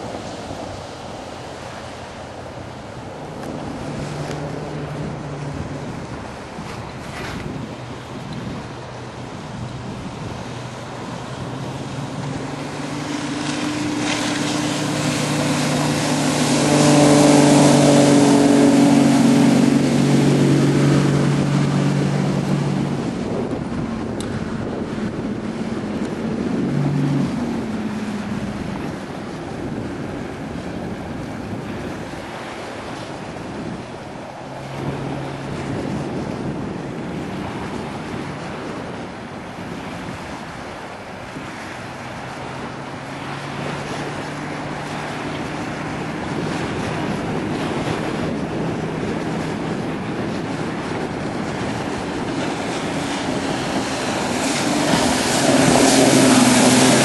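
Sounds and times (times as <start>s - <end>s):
outboard motor droning: 0.0s - 57.0s
wind noise on microphone: 0.0s - 57.0s.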